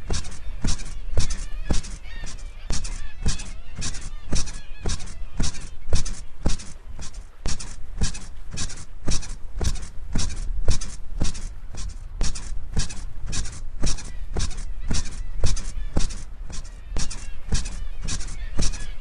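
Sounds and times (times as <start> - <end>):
bed springs squeaking: 0.0 - 19.0
dull low thumps: 0.0 - 19.0.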